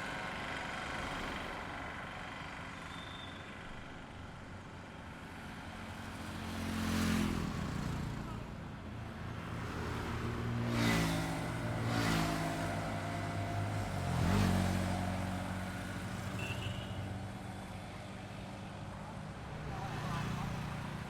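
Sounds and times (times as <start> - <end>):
highway traffic: 0.0 - 21.0
vehicles passing by: 0.0 - 21.0.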